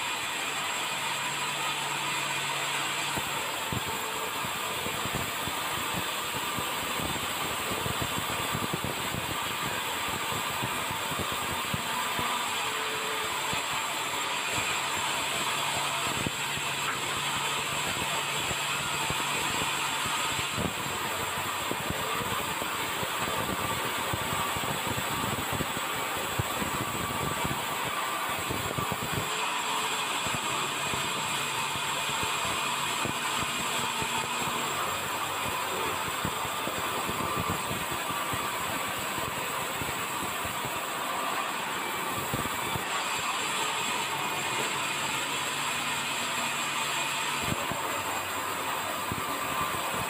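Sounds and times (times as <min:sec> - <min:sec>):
machine running: 0:00.0 - 0:50.0.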